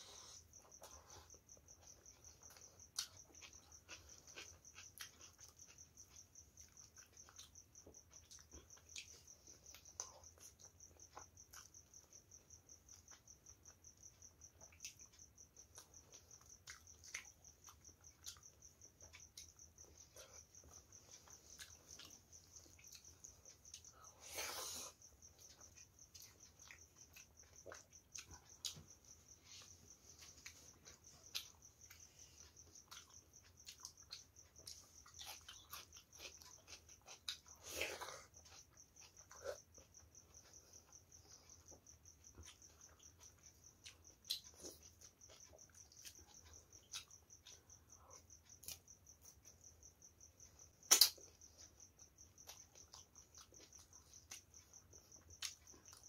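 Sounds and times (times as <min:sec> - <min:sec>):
quiet chewing: 0:00.0 - 0:56.0.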